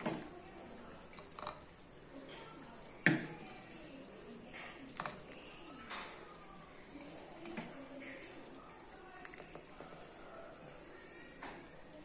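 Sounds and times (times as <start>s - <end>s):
curry dripping into bowl: 0.0s - 12.0s.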